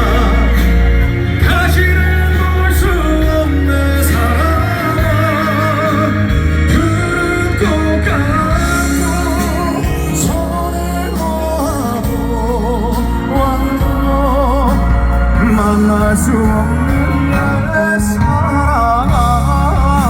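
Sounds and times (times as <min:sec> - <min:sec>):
band accompaniment with bass: 0:00.0 - 0:20.0
man singing pop ballad: 0:00.0 - 0:20.0.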